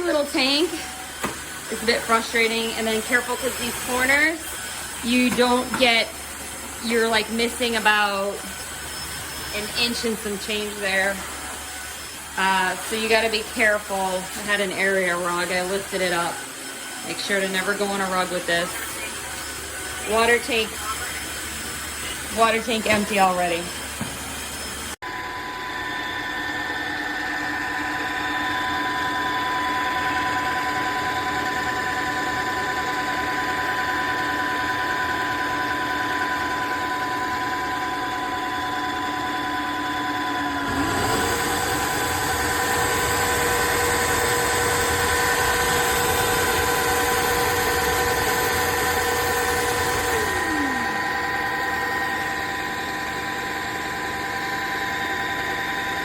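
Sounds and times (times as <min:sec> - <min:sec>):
floor cleaner motor whine: 0:00.0 - 0:56.0.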